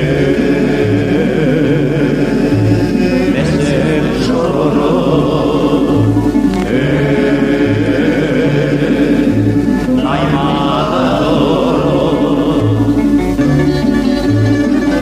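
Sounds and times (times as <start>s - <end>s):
string ensemble playing live: 0.0s - 15.0s.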